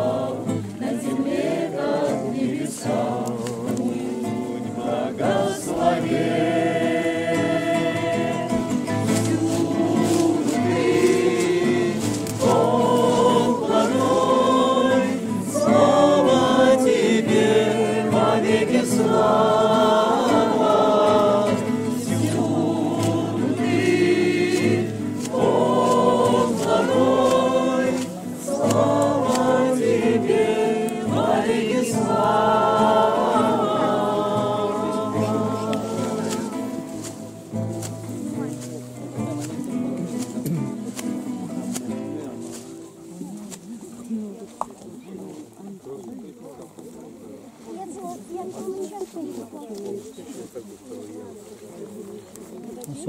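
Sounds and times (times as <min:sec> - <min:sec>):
strummed acoustic guitar: 0:00.0 - 0:43.3
group singing a hymn: 0:00.0 - 0:43.7.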